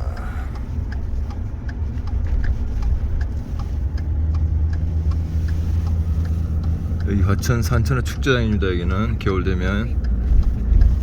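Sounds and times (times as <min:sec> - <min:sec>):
car engine and road rumble: 0:00.0 - 0:11.0
faint light ticks: 0:00.1 - 0:11.0.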